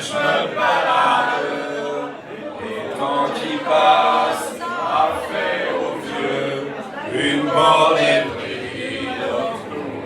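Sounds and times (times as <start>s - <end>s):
group of voices singing: 0.0s - 10.0s.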